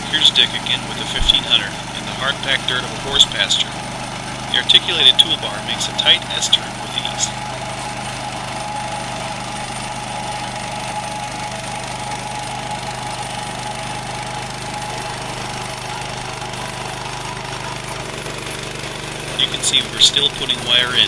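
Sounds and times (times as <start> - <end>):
trencher engine running under load: 0.0 - 21.0.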